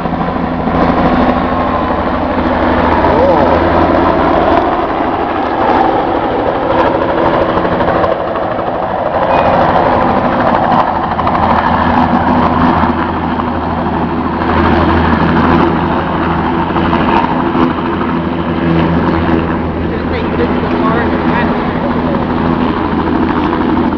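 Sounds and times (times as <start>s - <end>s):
helicopter drone: 0.0s - 23.9s.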